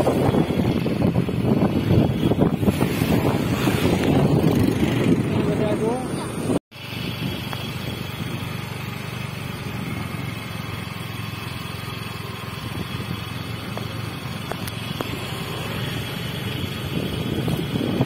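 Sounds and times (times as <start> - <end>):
motor scooter running: 0.0 - 18.0
road and wind noise: 0.0 - 18.0.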